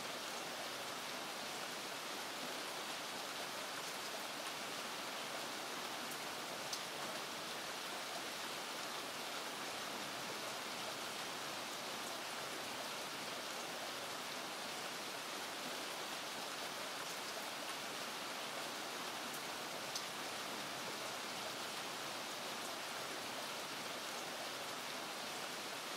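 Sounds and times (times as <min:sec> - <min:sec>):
steady rain hiss: 0:00.0 - 0:25.9.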